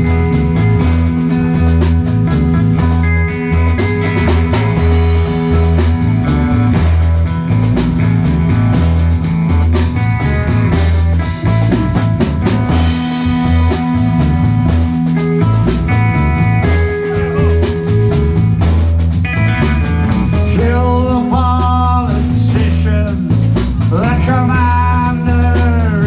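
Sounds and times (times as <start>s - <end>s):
bass guitar: 0.0s - 26.0s
drum kit beat: 0.0s - 26.0s
electric guitar: 0.0s - 26.0s.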